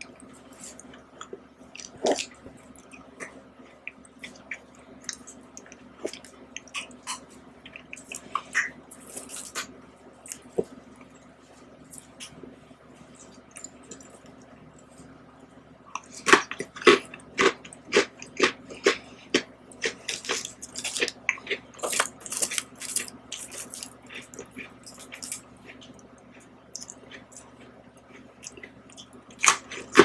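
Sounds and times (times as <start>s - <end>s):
crunchy chewing of cookie: 0.0s - 15.2s, 15.9s - 30.0s.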